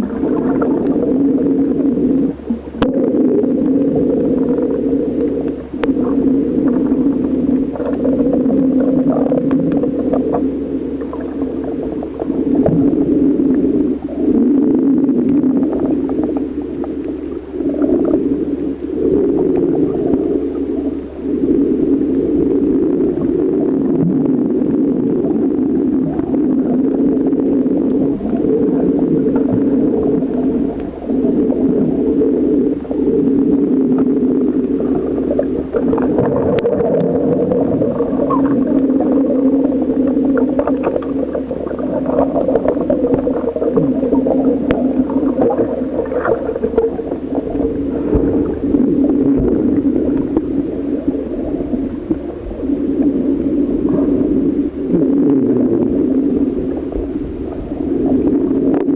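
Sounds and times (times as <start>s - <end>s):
fine crackling clicks: 0.0s - 54.1s
low underwater drone: 0.0s - 58.9s.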